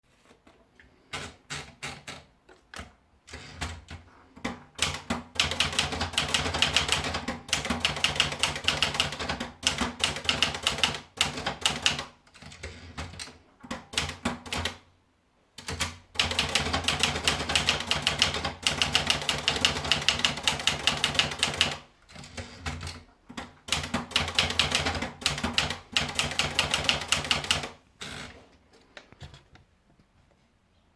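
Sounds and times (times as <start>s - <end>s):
manual typewriter keystrokes: 0.9s - 14.8s, 15.6s - 28.2s.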